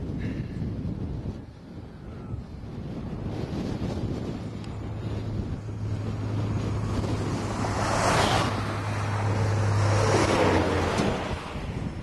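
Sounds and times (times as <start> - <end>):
low hum: 0.0 - 12.0
wind buffeting microphone: 0.0 - 12.0
wind whooshing: 0.0 - 12.0.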